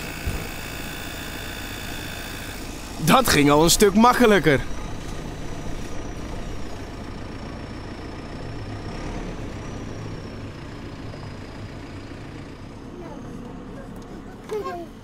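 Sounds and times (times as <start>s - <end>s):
diesel loader engine running: 0.0s - 15.0s.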